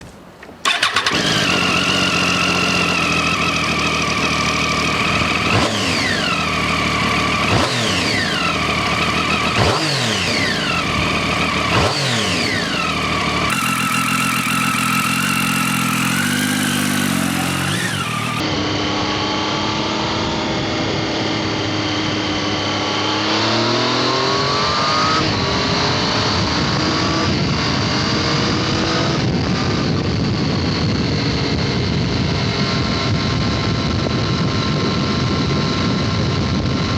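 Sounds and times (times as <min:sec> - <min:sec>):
motorcycle engine revving: 0:00.6 - 0:36.9.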